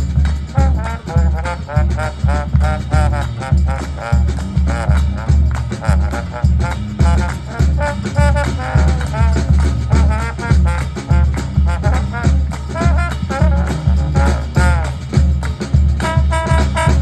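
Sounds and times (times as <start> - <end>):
brass band playing swing tune: 0.0 - 17.0.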